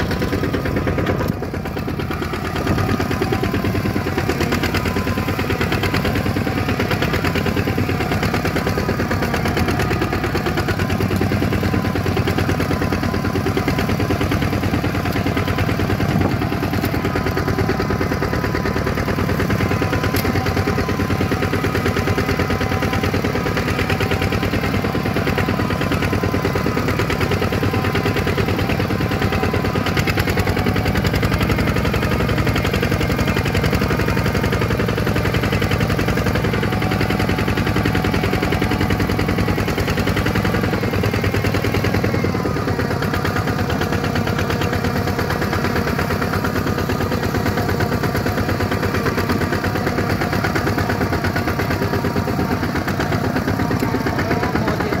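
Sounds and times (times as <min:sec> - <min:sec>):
diesel engine chugging: 0:00.0 - 0:55.0.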